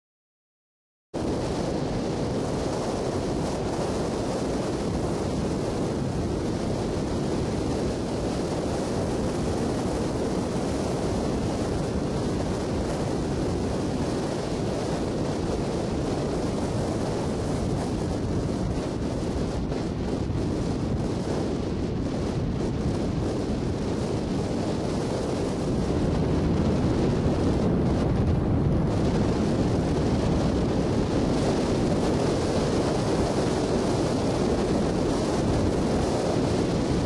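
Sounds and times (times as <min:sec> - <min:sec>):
wind buffeting microphone: 0:01.2 - 0:37.0.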